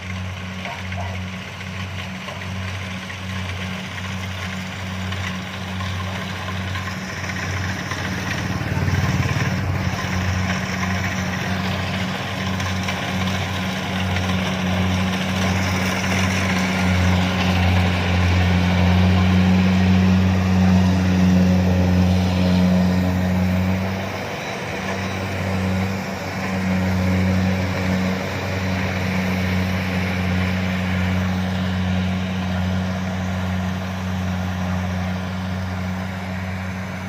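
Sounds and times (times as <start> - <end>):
diesel engine droning: 0.0 - 37.0
threshing machinery noise: 0.0 - 37.0.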